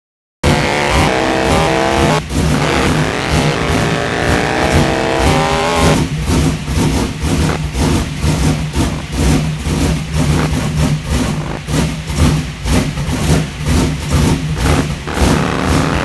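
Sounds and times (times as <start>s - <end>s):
drag car engine revving: 0.4s - 16.0s.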